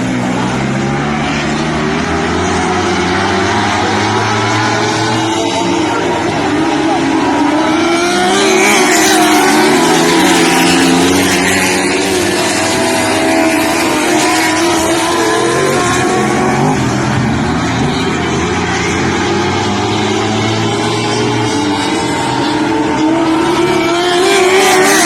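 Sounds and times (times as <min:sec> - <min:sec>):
racing car engines: 0:00.0 - 0:25.0.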